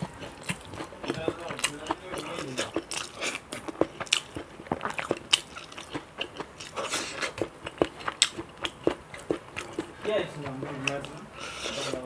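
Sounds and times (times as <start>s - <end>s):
person chewing and crunching food: 0.0s - 12.0s
wet mouth clicks: 0.0s - 12.0s.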